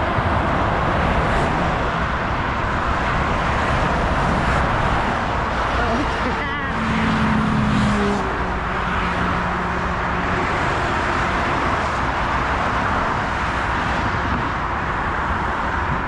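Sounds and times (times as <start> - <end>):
motorway traffic: 0.0 - 16.0
vehicle engine humming: 0.0 - 16.0.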